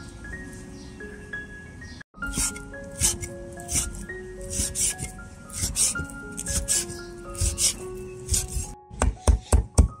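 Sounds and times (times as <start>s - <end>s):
melodic background tune: 0.0s - 10.0s.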